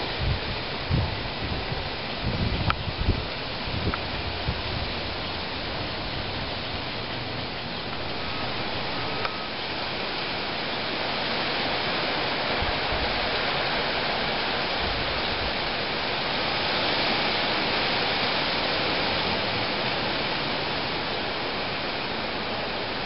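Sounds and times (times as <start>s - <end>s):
gusting wind: 0.0s - 23.0s
heavy rain rushing: 0.0s - 23.0s.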